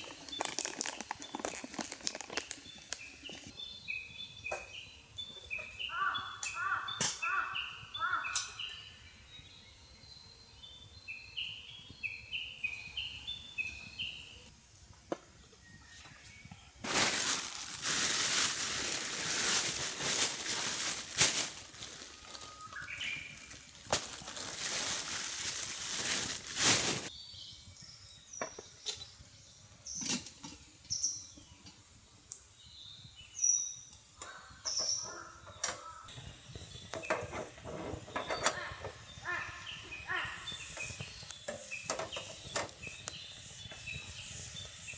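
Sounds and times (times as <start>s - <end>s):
small birds chirping: 0.0s - 14.5s, 15.3s - 44.9s.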